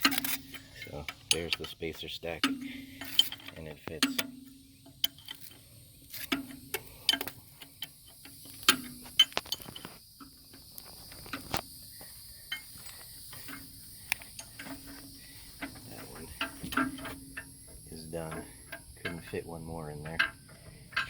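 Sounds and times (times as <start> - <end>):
metallic clicks and taps of shims: 0.0 - 11.6, 12.5 - 21.0.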